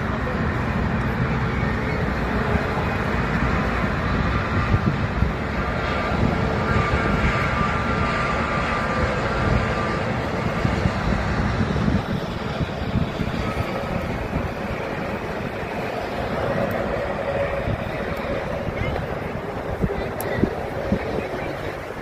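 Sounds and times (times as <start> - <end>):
faint jet whine: 0.0 - 22.0
jet engines taxiing: 0.0 - 22.0.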